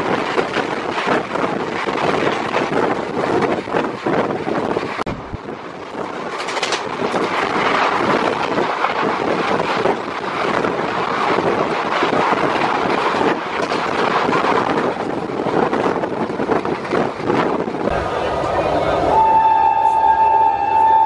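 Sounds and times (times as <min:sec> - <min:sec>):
passing train wheels rushing: 0:00.0 - 0:21.0
wind buffeting microphone: 0:00.0 - 0:21.0.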